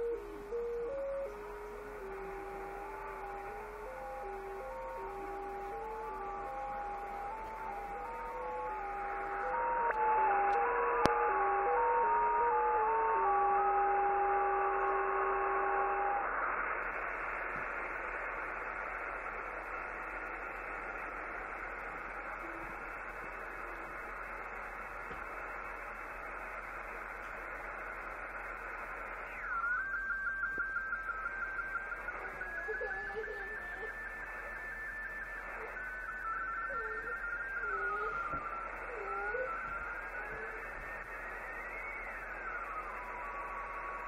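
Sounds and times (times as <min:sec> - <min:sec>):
pulsing whistling tone: 0:00.0 - 0:16.3, 0:17.0 - 0:44.0
radio static hiss: 0:00.0 - 0:44.0.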